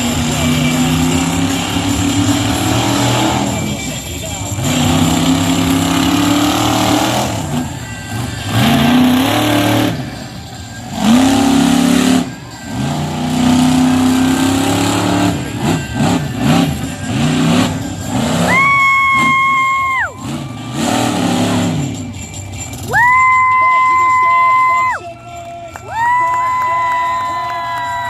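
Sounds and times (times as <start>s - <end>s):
truck engine revving: 0.0s - 24.9s.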